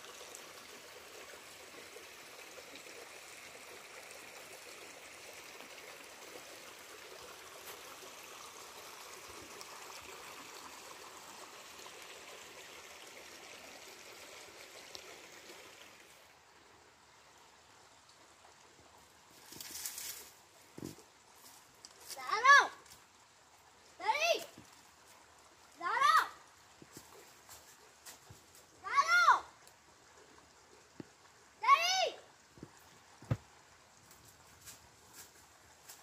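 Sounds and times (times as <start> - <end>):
running water trickling: 0.0 - 36.0.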